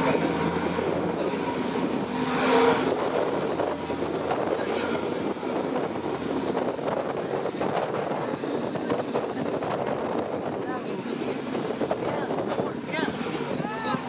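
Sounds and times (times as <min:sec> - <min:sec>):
bus engine running: 0:00.0 - 0:13.7
wheels pushing through floodwater: 0:00.0 - 0:14.0.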